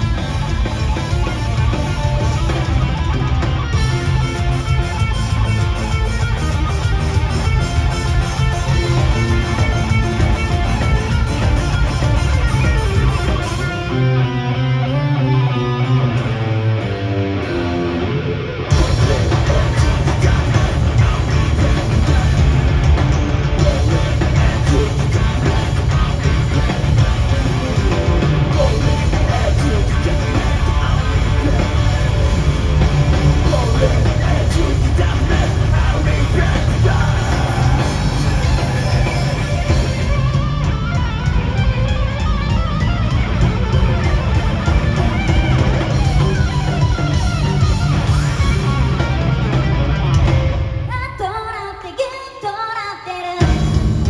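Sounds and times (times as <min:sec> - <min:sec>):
live rock band playing: 0:00.0 - 0:51.1, 0:53.4 - 0:54.0.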